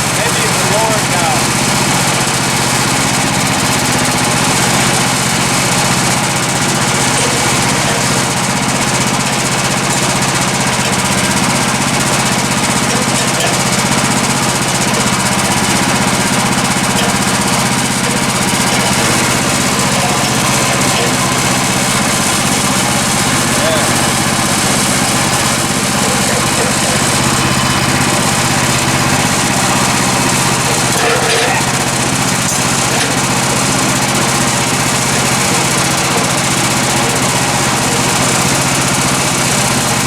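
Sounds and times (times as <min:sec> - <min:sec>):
gasoline engine running: 0:00.0 - 0:40.0.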